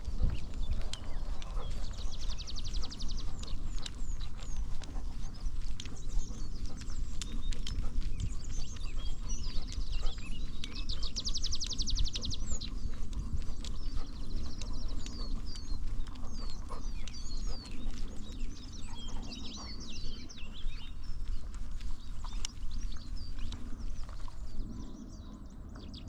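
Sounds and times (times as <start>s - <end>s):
dog footsteps crunching on trail: 0.0s - 25.4s
songbirds calling: 0.0s - 26.0s.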